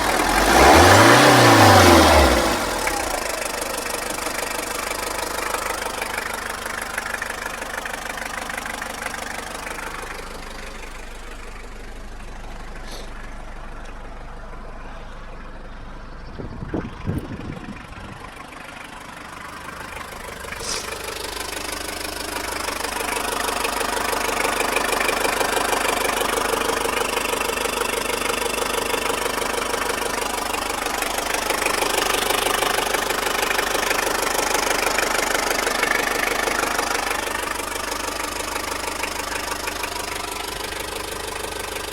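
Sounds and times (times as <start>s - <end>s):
engine running with rapid knock: 0.0s - 15.4s, 16.4s - 41.9s.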